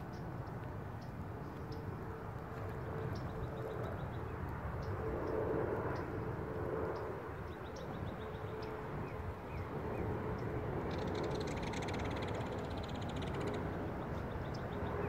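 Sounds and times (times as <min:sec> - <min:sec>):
low rumble by open water: 0:00.0 - 0:15.0.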